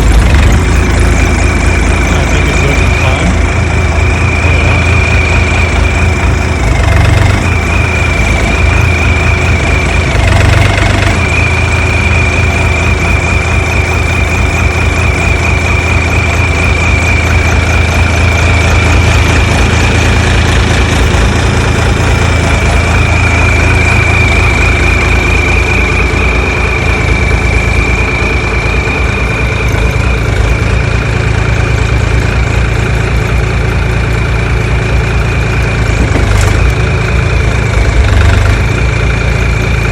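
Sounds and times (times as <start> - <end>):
excavator diesel engine idling: 0.0 - 39.9
high whine: 0.0 - 39.9.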